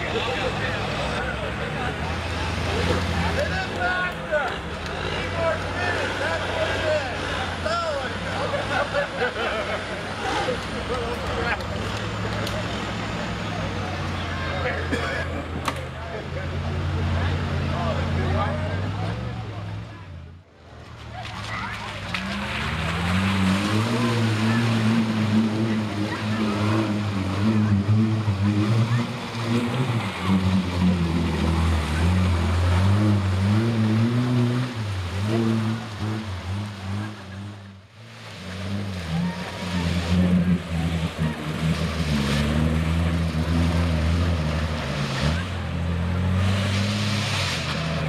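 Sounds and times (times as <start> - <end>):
off-road engine revving: 0.0 - 48.0
tires splashing through mud: 0.0 - 48.0.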